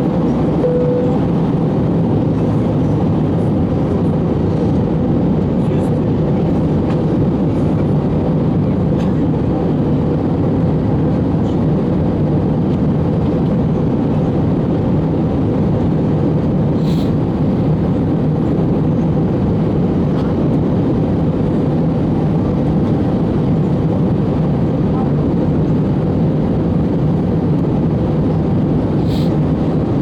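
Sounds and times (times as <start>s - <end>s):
jet engines and airflow rush: 0.0s - 30.0s.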